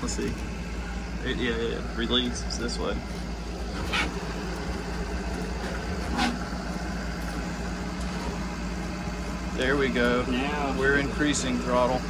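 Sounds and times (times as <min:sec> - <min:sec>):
dredge engine idling: 0:00.0 - 0:12.0.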